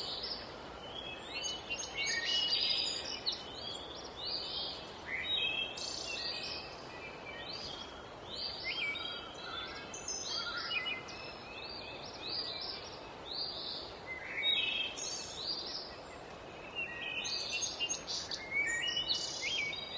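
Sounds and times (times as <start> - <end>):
songbirds chirping and trilling: 0.0 - 19.9
steady background hiss: 0.0 - 19.9.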